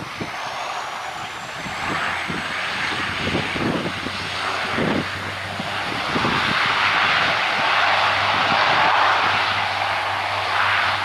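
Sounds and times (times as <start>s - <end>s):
low propeller hum: 0.0s - 11.0s
turboprop engines roaring: 0.0s - 11.0s.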